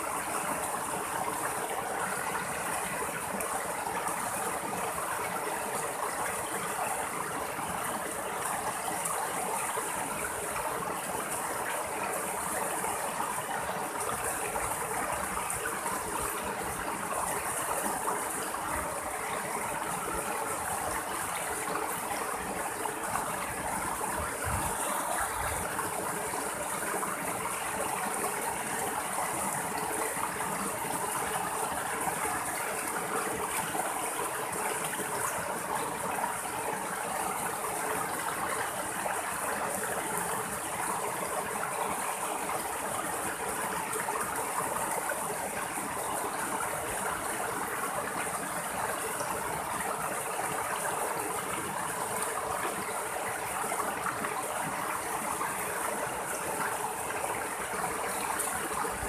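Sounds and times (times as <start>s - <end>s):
stream splashing over rocks: 0.0s - 59.0s.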